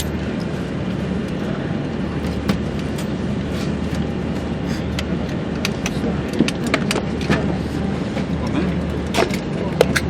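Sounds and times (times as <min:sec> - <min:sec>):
cabin ventilation hum: 0:00.0 - 0:10.0.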